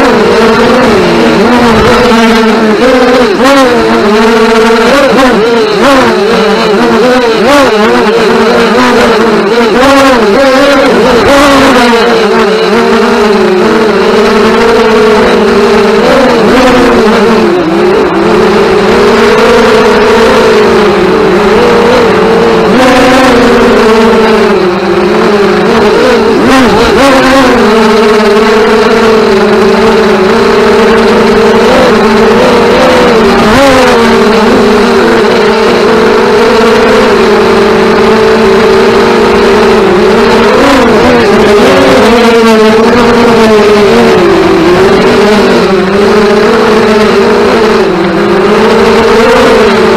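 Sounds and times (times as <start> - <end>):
drone motors buzzing: 0.0 - 49.9.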